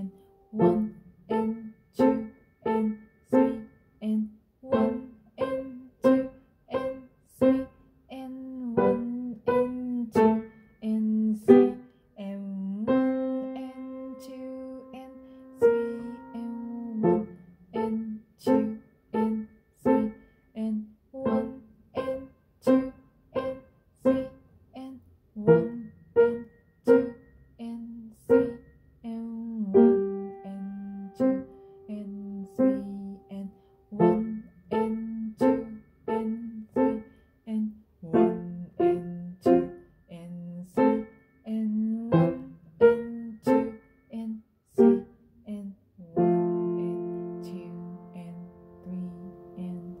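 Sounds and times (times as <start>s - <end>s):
held piano chords: 0.0s - 50.0s
slow piano notes: 0.0s - 50.0s.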